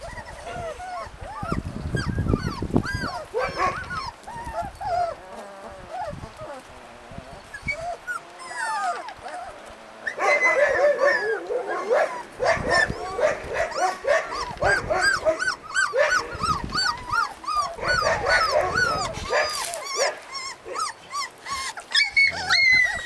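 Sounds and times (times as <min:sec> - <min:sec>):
puppies whimpering and squealing: 0:00.0 - 0:23.0.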